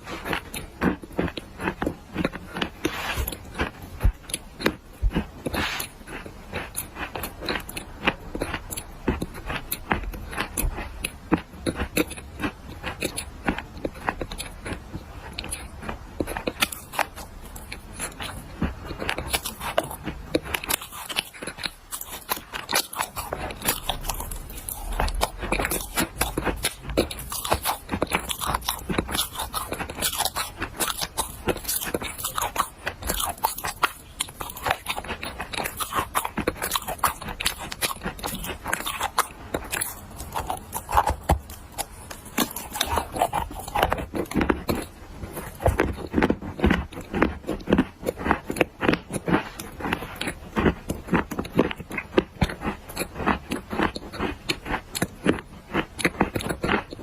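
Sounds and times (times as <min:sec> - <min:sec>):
person chewing dry clay: 0:00.0 - 0:57.0.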